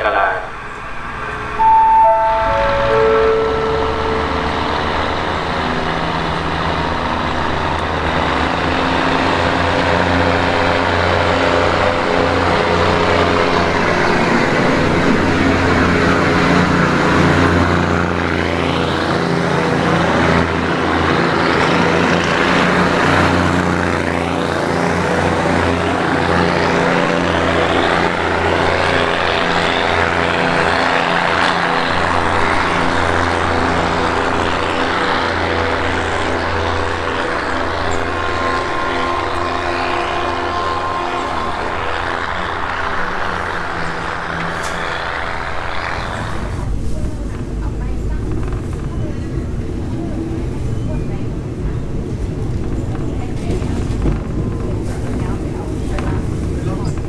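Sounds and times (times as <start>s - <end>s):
train engine drone: 0.0s - 57.0s
wheel and rail noise: 0.0s - 57.0s.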